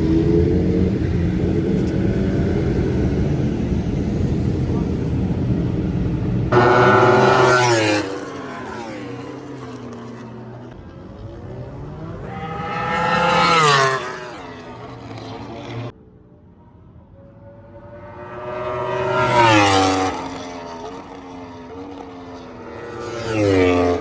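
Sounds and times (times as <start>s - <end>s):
motorcycles passing at speed: 0.0s - 16.0s, 16.8s - 24.0s.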